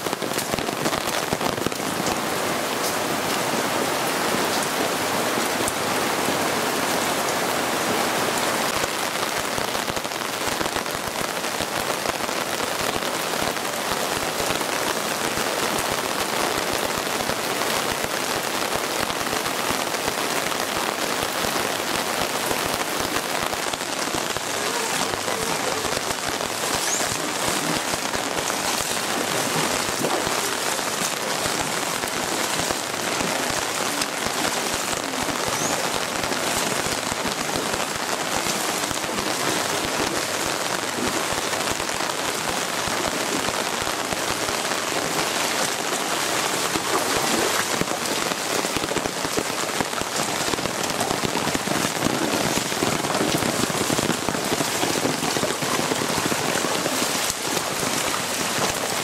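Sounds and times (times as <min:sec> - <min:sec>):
heavy rain on patio and plants: 0:00.0 - 0:59.0.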